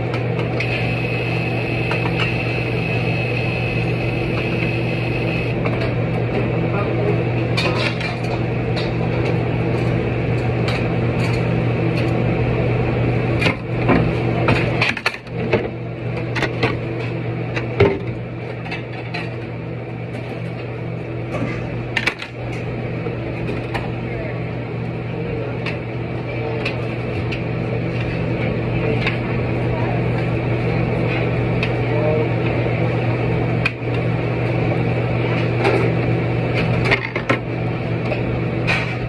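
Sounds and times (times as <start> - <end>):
steady electrical hum: 0.0 - 39.0.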